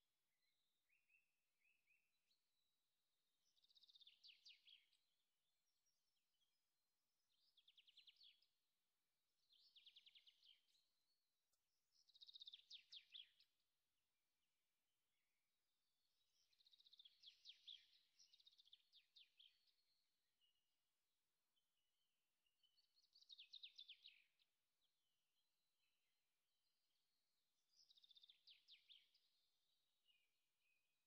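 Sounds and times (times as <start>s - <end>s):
faint bird song trills: 0.0s - 31.0s.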